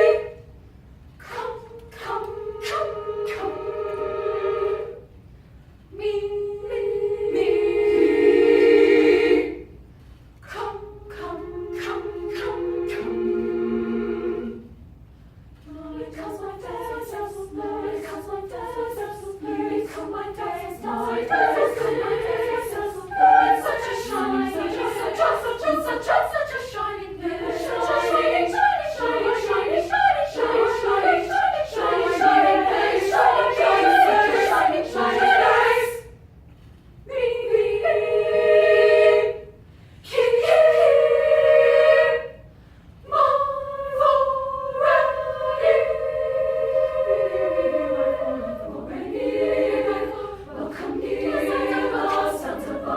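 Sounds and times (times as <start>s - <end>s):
choir singing: 0.0s - 0.5s, 1.2s - 5.2s, 5.9s - 9.8s, 10.4s - 14.8s, 15.6s - 36.2s, 37.0s - 52.9s.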